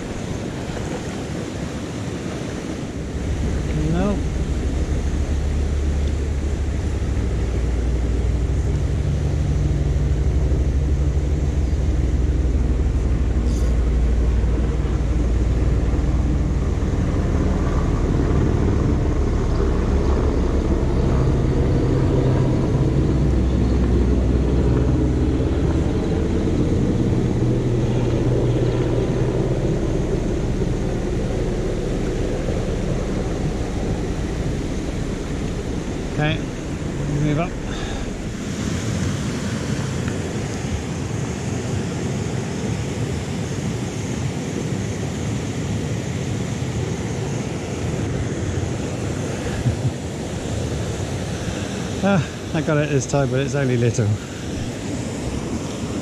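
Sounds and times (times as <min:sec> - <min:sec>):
waterfall and stream rushing: 0:00.0 - 0:56.0
wind rumble on microphone: 0:00.0 - 0:56.0.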